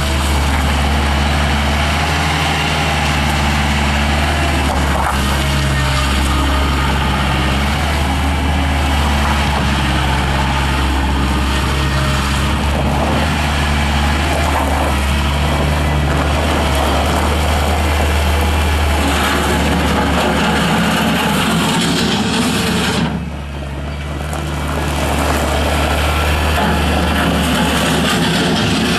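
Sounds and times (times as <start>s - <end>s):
skid steer loader engine running: 0.0s - 28.9s.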